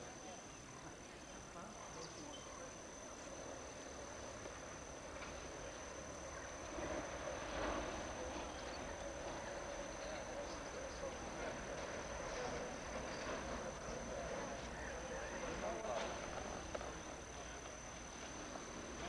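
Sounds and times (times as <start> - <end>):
faint outdoor background noise: 0.0 - 19.0
steady high-pitched whine: 0.0 - 19.0.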